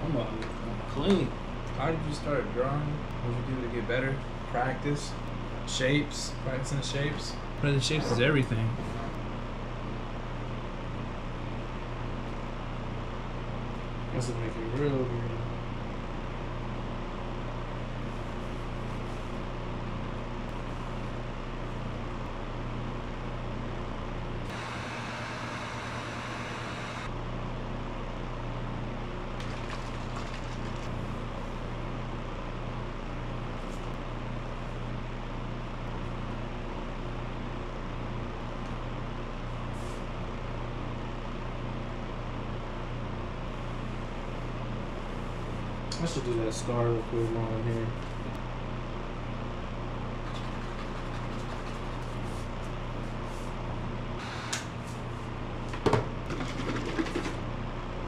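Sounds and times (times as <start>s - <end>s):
low mechanical hum with hiss: 0.0s - 58.0s.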